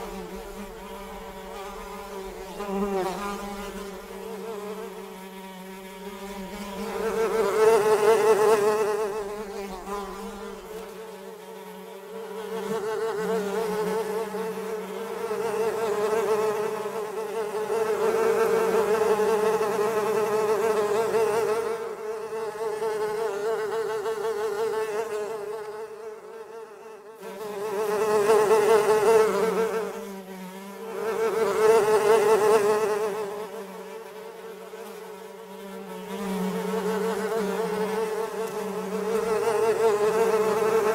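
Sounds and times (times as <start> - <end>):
flies buzzing: 0.0 - 40.9.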